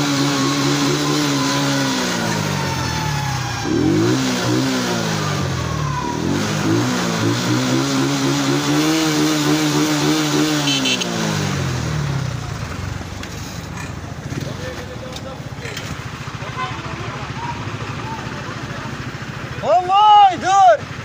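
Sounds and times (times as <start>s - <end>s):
motorcycle engine revving: 0.0s - 21.0s
vehicle engines running: 0.0s - 21.0s.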